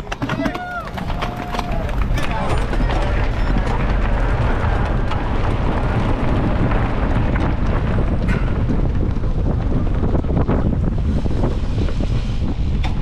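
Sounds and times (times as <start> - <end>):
tyres rolling over gravel: 0.0 - 12.8
bike knocks and rattles: 0.0 - 13.0
wind buffeting microphone: 0.0 - 13.0.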